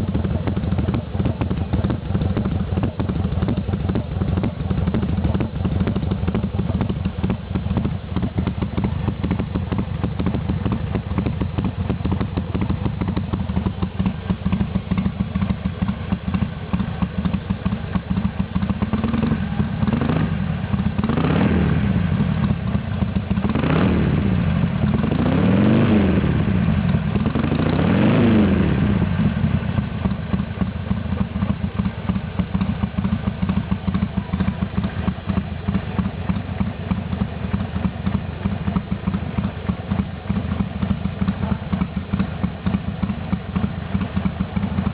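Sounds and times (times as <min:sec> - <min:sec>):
motorcycle engine idling and revving: 0:00.0 - 0:44.9.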